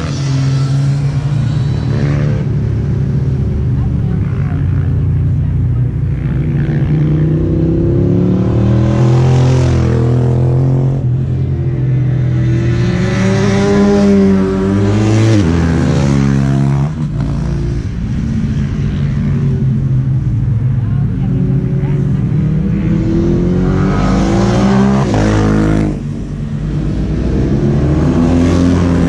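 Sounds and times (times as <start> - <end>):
motorcycles passing at high revs: 0.0 - 29.0.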